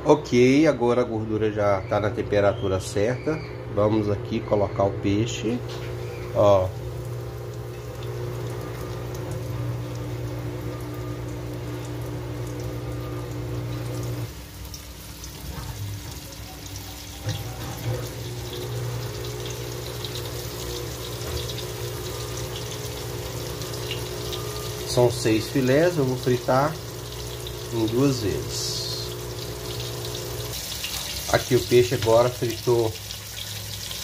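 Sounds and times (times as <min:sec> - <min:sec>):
fish sizzling in hot oil: 0:05.8 - 0:34.0.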